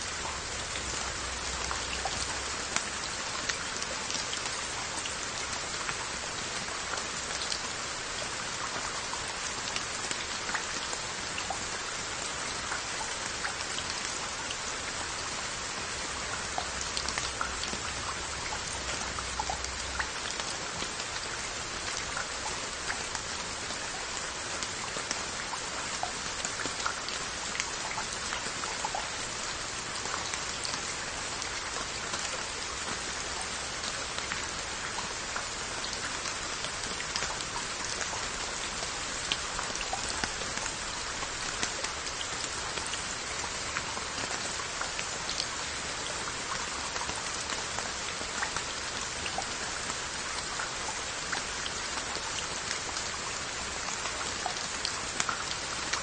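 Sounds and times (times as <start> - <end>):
rain pattering on pottery: 0.0 - 56.0.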